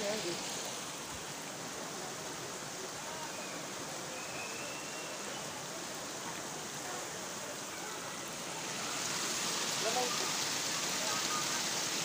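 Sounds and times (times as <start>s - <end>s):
waterfall splashing on rock: 0.0s - 12.0s.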